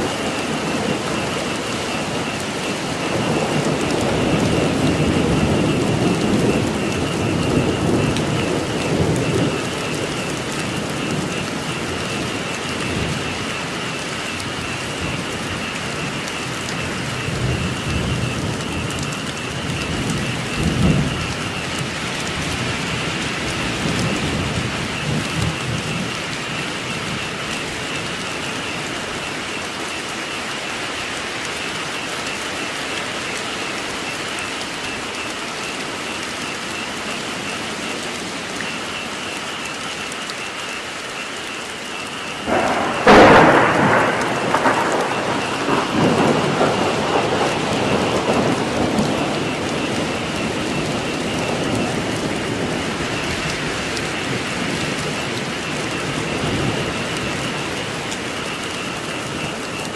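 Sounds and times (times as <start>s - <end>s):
thunder rolling: 0.0s - 30.4s, 41.9s - 59.9s
frogs chorusing: 0.0s - 59.9s
heavy rain: 0.0s - 59.9s.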